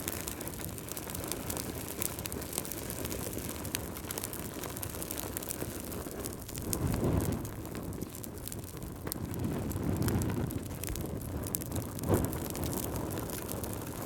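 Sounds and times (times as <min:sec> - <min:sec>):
fire burning in fireplace: 0:00.0 - 0:14.0
wood crackling and popping: 0:00.0 - 0:14.0.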